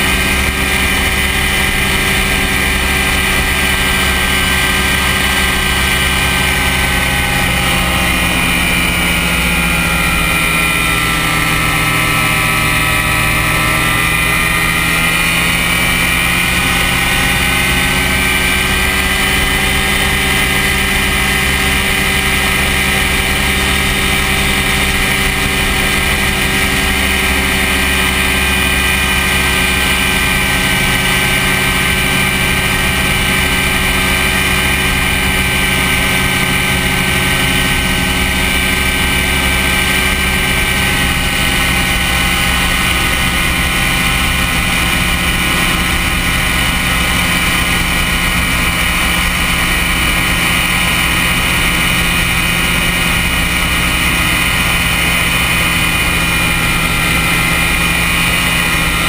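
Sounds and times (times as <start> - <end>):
light aircraft engine and propeller: 0.0 - 59.0
rush of wind: 0.0 - 59.0.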